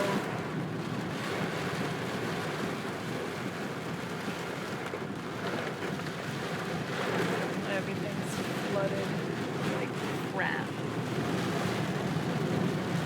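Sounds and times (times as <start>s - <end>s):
heavy rain on a car: 0.0s - 13.0s
tyres running through water: 0.0s - 13.0s.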